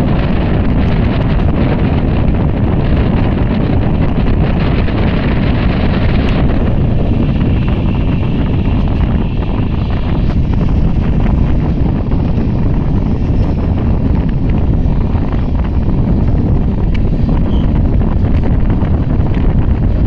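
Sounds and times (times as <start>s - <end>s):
train rumbling on rails: 0.0s - 20.0s
wind buffeting microphone: 0.0s - 20.0s.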